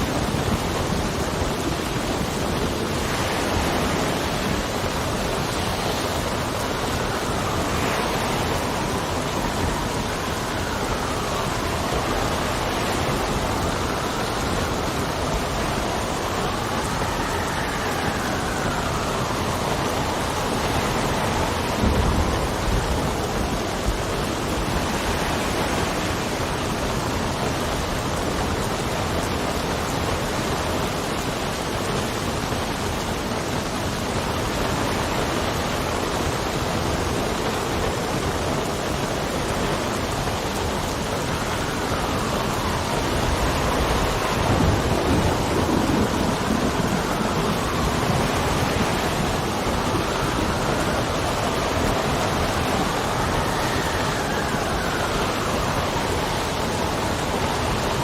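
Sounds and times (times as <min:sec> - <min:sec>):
steady rain: 0:00.0 - 0:58.0
wind whistling: 0:00.0 - 0:58.0.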